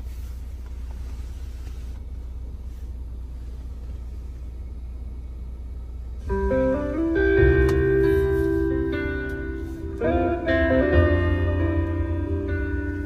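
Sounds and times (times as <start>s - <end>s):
car engine idling in cabin: 0.0s - 13.0s.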